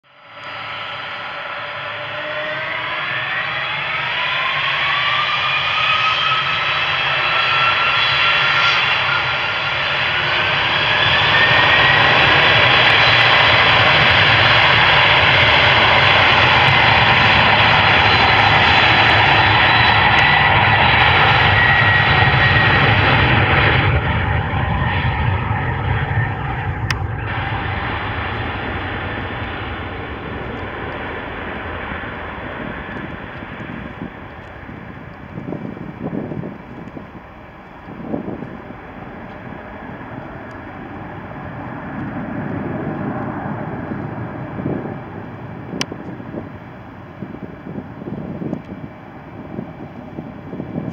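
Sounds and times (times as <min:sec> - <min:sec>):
jet engines spooling up: 0:00.1 - 0:50.9.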